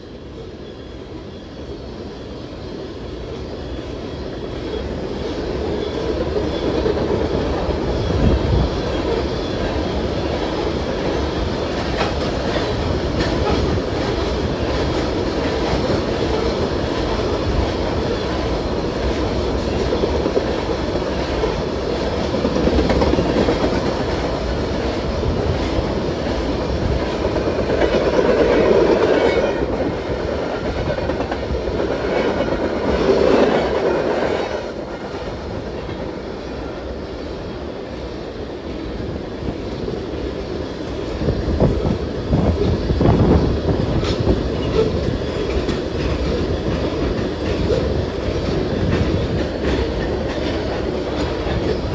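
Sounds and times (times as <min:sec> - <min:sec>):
freight train rolling past: 0:00.0 - 0:51.9
steel wheels clacking on rail: 0:03.6 - 0:37.3, 0:38.0 - 0:51.9.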